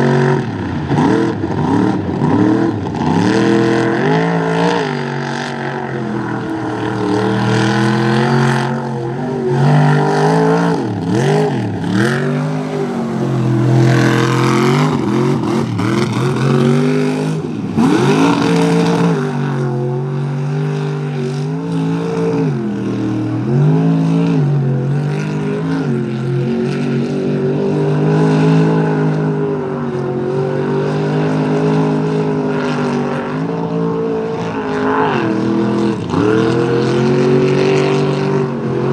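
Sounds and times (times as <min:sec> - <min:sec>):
truck engine revving: 0:00.0 - 0:29.5, 0:34.8 - 0:38.9.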